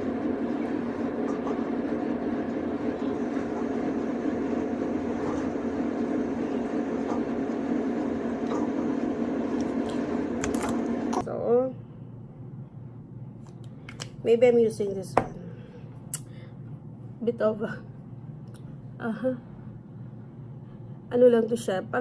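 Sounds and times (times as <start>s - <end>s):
droning background noise: 0.0s - 22.0s.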